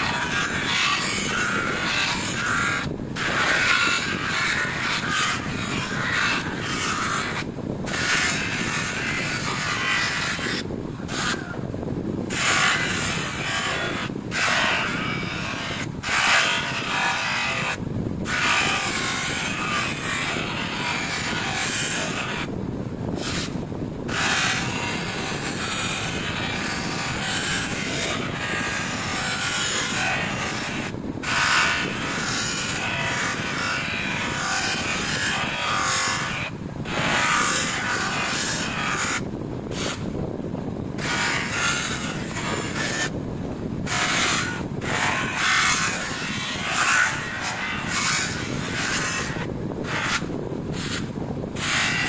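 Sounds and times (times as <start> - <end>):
abrasive rubbing and scraping metal: 0.0 - 11.6, 12.3 - 22.5, 23.2 - 40.2, 41.0 - 43.2, 43.8 - 52.0.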